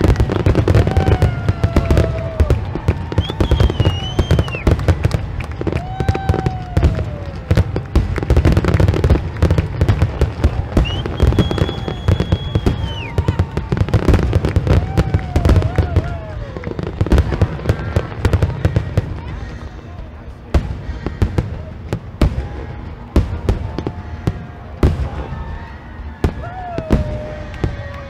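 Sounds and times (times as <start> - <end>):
fireworks booms and crackles: 0.0 - 28.0
whistling fireworks: 0.0 - 28.0.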